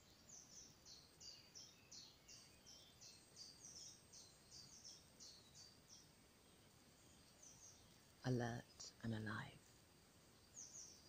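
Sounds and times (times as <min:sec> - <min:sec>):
songbird singing faintly: 0:00.0 - 0:11.0.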